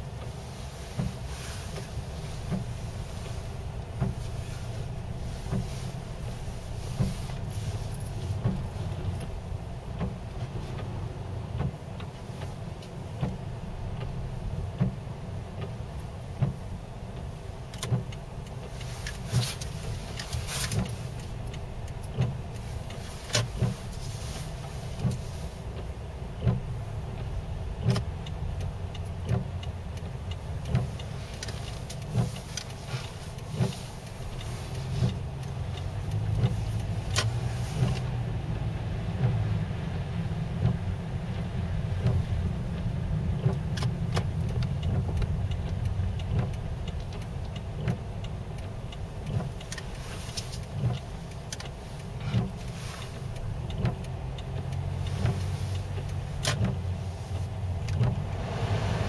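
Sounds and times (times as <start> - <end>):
car engine and tyre noise: 0.0 - 59.0
windshield wipers sweeping: 0.0 - 59.0.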